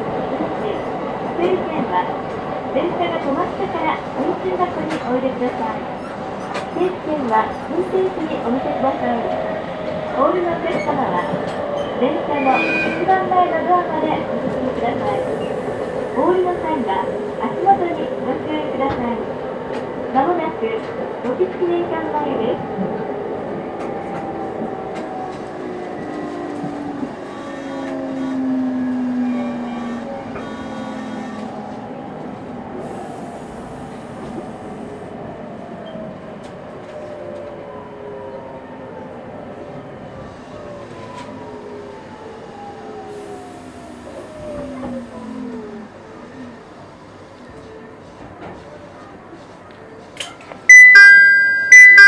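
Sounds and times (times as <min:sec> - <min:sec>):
wheels rumbling on rail: 0:00.0 - 0:38.5, 0:39.6 - 0:52.0.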